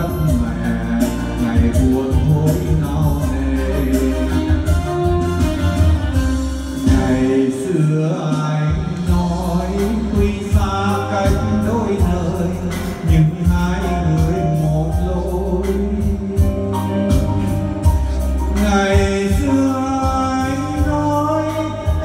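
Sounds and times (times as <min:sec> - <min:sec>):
band with bass and beat: 0:00.0 - 0:22.0
man singing a ballad: 0:00.0 - 0:22.0.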